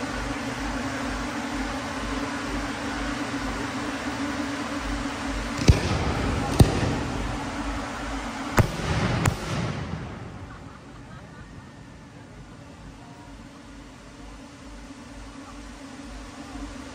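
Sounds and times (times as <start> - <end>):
drones humming overhead: 0.0 - 16.9.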